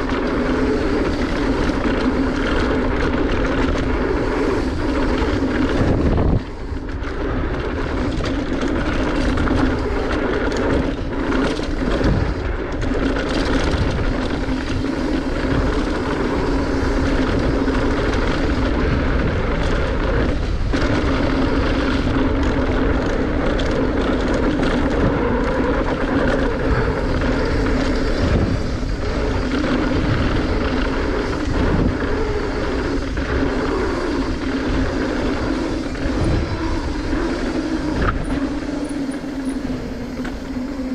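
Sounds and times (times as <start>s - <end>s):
bike rattling: 0.0s - 40.9s
wind on microphone: 0.0s - 40.9s.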